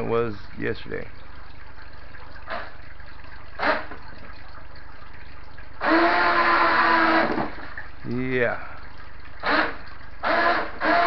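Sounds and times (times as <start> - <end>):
propeller churning water: 0.0 - 11.0.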